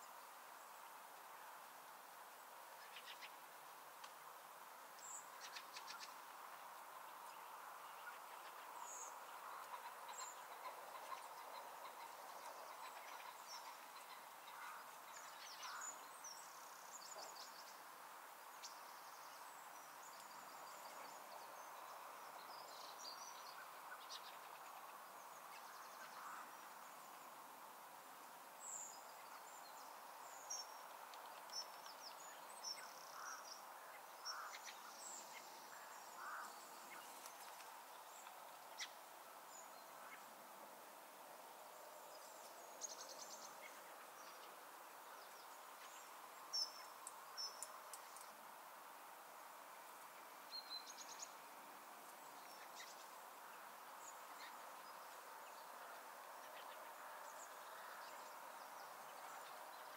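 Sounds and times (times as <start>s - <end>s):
soft steady hiss: 0.0s - 59.9s.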